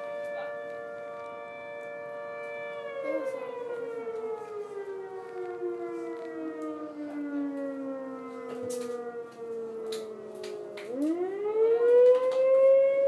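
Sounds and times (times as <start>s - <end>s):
warning siren winding down: 0.0s - 13.0s.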